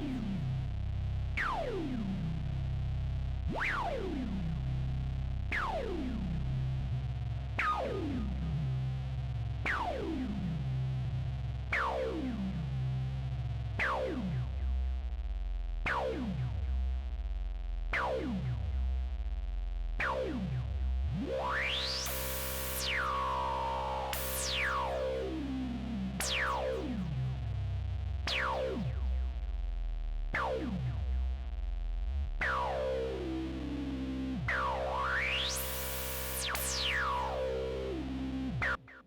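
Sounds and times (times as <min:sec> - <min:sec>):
synthesizer low notes with filter sweeps: 0:00.0 - 0:39.0.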